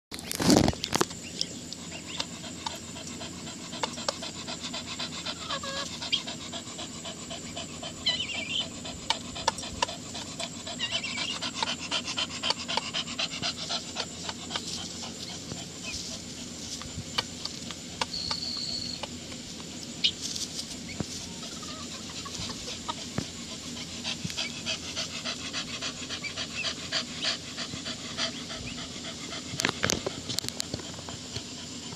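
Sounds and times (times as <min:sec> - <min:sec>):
chickens calling: 0:00.6 - 0:31.9
dog panting: 0:01.7 - 0:18.1, 0:21.0 - 0:31.9.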